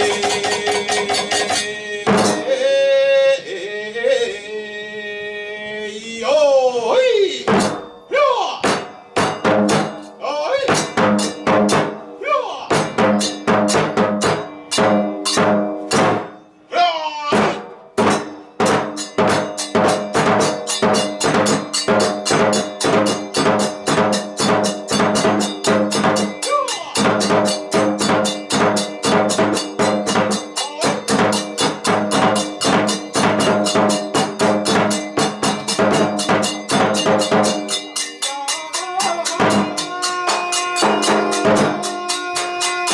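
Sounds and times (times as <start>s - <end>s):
drums beating: 0.0s - 2.8s, 7.3s - 42.9s
hand cymbals: 0.0s - 2.8s, 7.5s - 16.7s, 17.4s - 42.9s
steady held tones: 7.4s - 42.9s.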